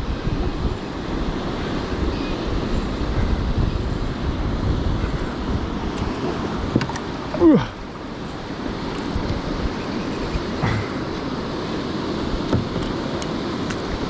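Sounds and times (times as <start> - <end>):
moving water: 0.0 - 14.0
wind buffeting microphone: 0.0 - 14.0.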